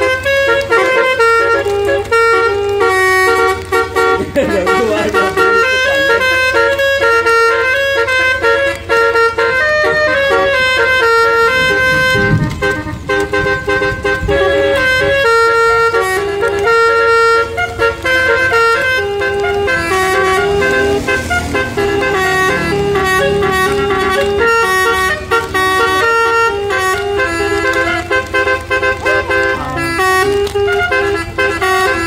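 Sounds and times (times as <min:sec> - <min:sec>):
multi-tone air horn tune: 0:00.0 - 0:32.0.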